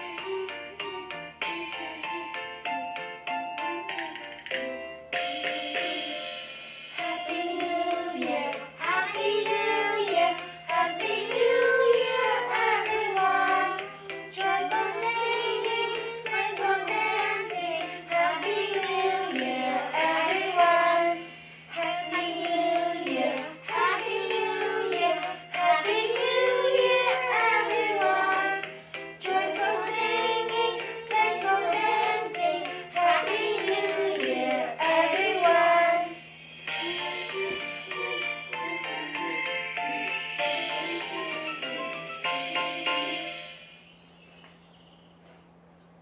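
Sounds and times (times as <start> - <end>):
young children singing: 0.0 - 2.6, 5.8 - 36.2, 36.8 - 39.5, 40.5 - 41.8.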